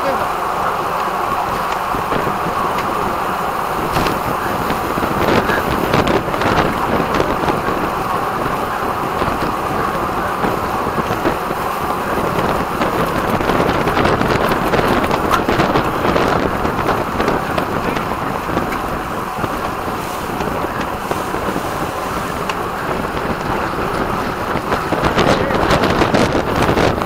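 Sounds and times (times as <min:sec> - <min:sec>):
wind rush over microphone: 0:00.0 - 0:27.0.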